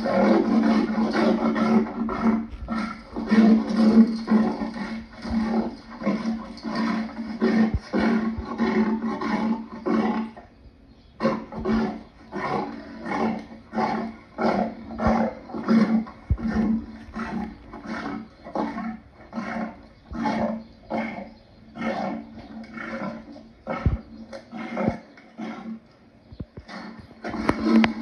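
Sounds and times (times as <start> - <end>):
lion grunting roars: 0.0 - 10.5, 11.2 - 25.8.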